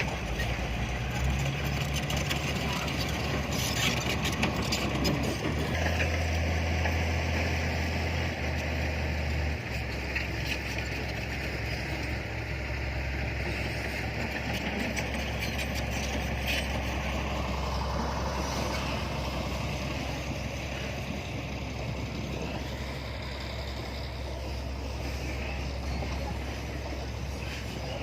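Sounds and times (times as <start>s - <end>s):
truck engine low hum: 0.0s - 28.0s.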